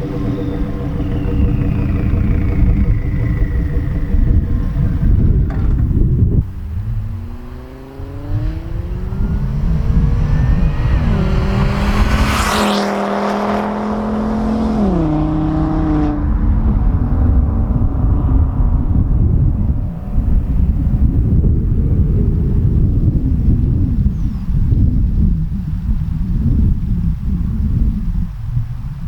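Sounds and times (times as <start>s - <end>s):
car engine accelerating: 0.0s - 29.0s
wind rumble on microphone: 0.0s - 29.0s.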